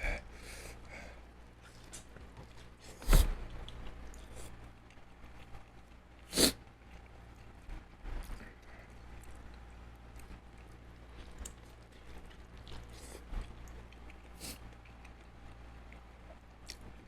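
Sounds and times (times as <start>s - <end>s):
person chewing food: 1.6s - 17.0s.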